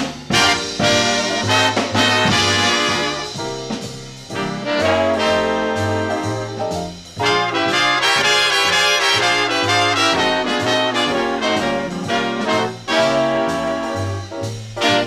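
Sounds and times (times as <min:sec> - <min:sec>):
bass line: 0:00.0 - 0:15.0
big band brass section: 0:00.0 - 0:15.0.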